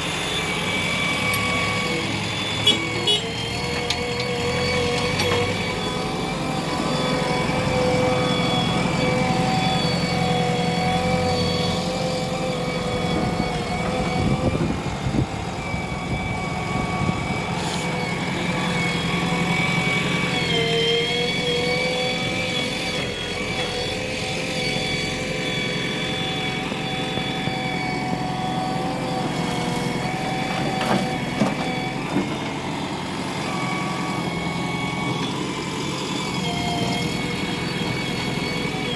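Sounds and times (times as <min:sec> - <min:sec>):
diesel machinery engines running: 0:00.0 - 0:38.9.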